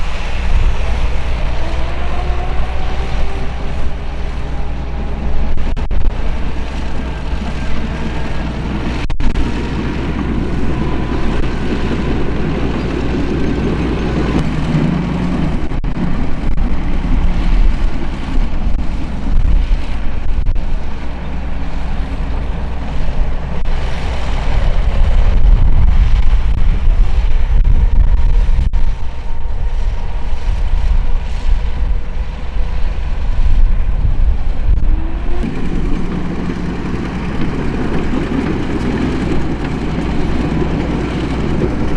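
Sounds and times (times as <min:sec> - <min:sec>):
diesel construction machinery rumbling: 0:00.0 - 0:41.9.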